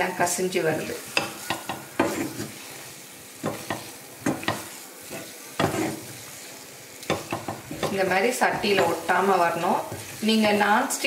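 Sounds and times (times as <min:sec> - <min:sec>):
food sizzling in a pan: 0:00.0 - 0:11.0
wooden spatula scraping a pan: 0:00.8 - 0:06.4, 0:07.1 - 0:10.8.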